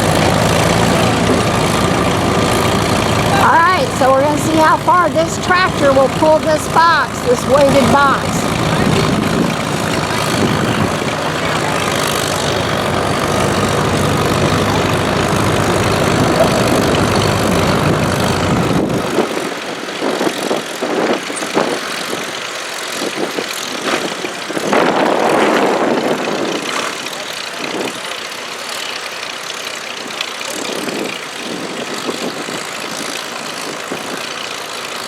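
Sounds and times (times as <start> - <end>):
tractor engine under load: 0.0 - 35.0.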